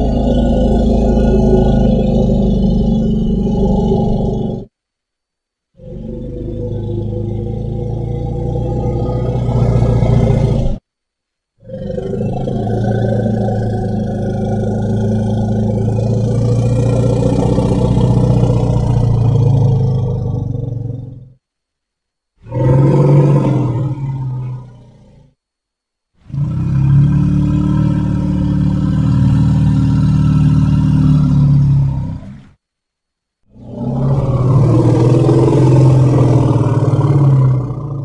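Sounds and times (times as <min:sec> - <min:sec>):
low rough dinosaur roars: 0:00.0 - 0:04.7, 0:05.8 - 0:10.8, 0:11.6 - 0:21.4, 0:22.4 - 0:25.4, 0:26.2 - 0:32.5, 0:33.5 - 0:38.0.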